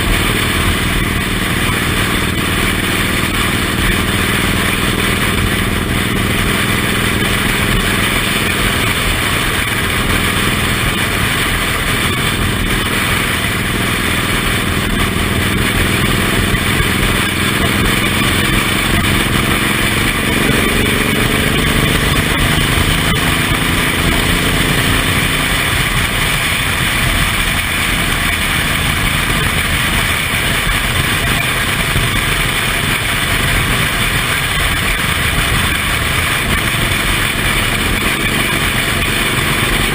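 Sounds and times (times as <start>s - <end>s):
motorcycle engine accelerating: 0.0s - 39.9s
rushing wind and road noise: 0.0s - 39.9s.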